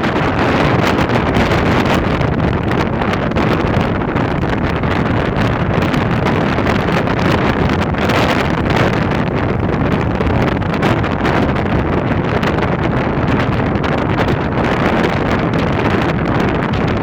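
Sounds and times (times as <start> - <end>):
storm wind on microphone: 0.0 - 17.0.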